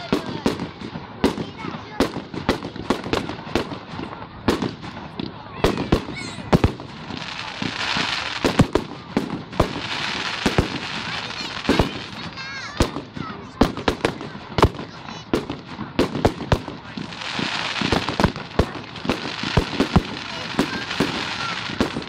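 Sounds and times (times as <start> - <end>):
fireworks bangs and cracks: 0.0 - 22.0
fireworks hiss: 0.0 - 22.0.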